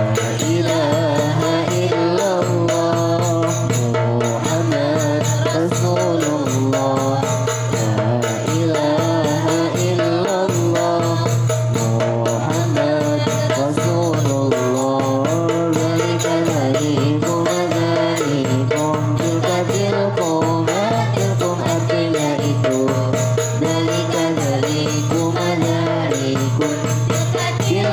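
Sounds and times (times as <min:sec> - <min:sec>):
music with rattling percussion: 0:00.0 - 0:27.9
person singing: 0:00.0 - 0:27.9.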